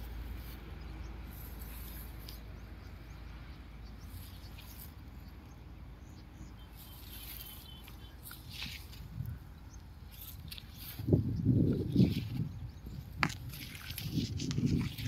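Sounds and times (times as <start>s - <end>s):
dry grass rustling: 0.0s - 5.6s, 6.4s - 15.0s
low steady rumble: 0.0s - 15.0s.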